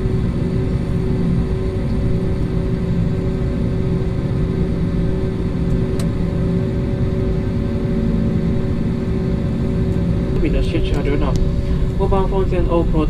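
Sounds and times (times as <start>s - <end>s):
airliner engine rumble in cabin: 0.0s - 13.0s.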